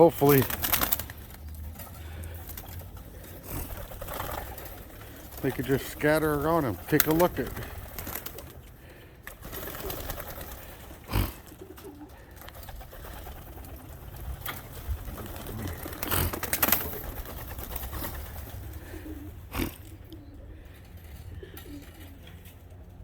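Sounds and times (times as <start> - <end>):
pigeons cooing softly: 0.0 - 23.0.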